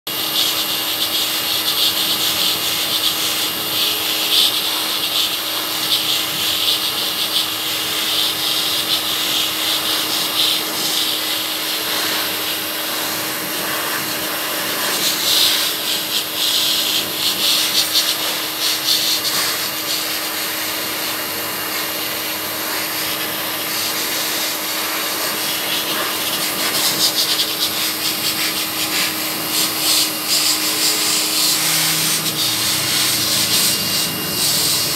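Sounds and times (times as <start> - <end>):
grooming blower running: 0.1 - 34.9.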